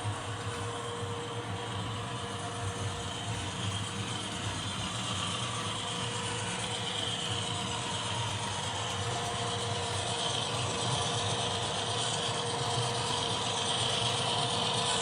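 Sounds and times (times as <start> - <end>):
model train whirring and clicking: 0.0 - 15.0.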